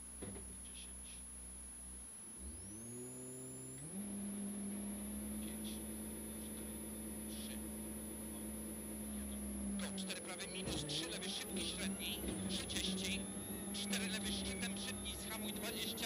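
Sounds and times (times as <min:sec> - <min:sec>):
faint high whine: 0:00.0 - 0:16.0
rally car engine revving: 0:02.4 - 0:16.0.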